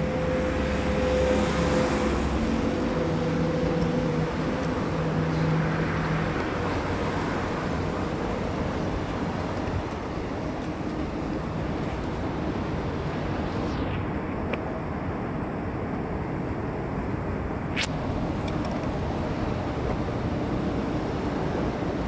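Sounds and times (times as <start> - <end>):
city road traffic: 0.0 - 22.0
engine humming: 0.0 - 22.0.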